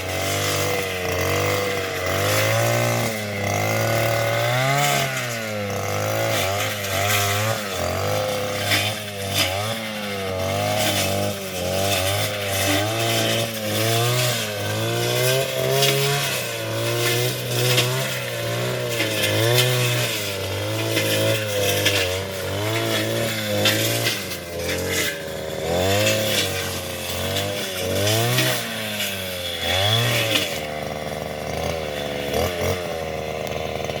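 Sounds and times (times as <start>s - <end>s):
small petrol engine revving: 0.0s - 34.0s.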